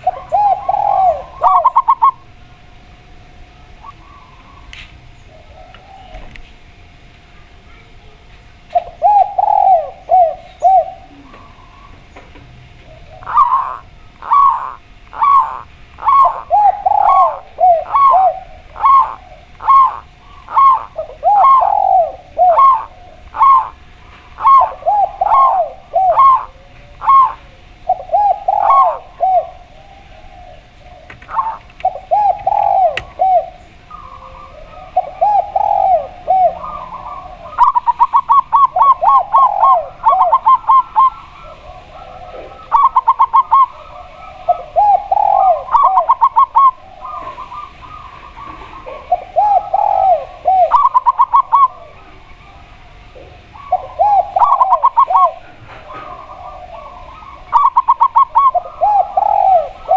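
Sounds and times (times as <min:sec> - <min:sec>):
low rolling dove coos: 0:00.0 - 0:59.9.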